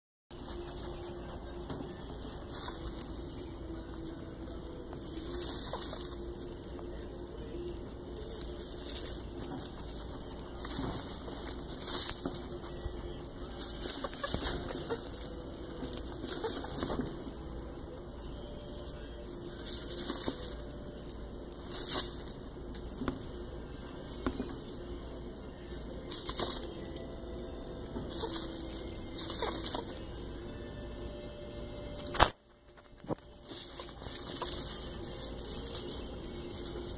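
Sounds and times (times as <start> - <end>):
dry hay rustling and crackling: 0.3 - 30.7, 32.0 - 36.9.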